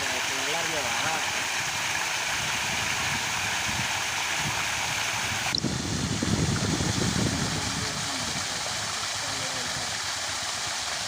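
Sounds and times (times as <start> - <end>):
water jet spraying: 0.0 - 11.0.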